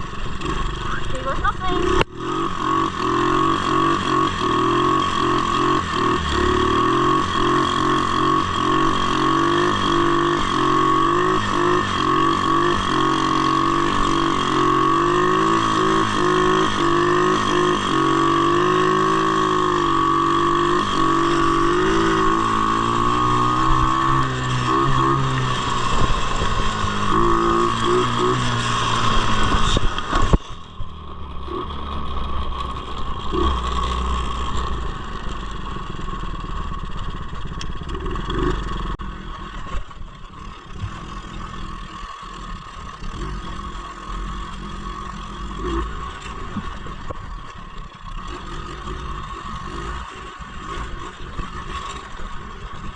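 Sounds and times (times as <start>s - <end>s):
constant high whine: 0.0s - 52.9s
engine running: 0.0s - 52.9s.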